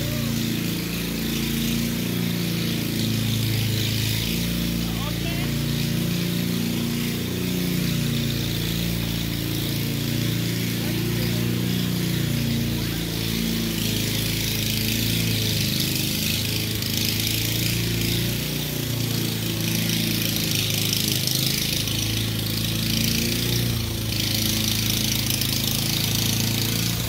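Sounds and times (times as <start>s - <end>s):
small petrol engine running: 0.0s - 27.0s.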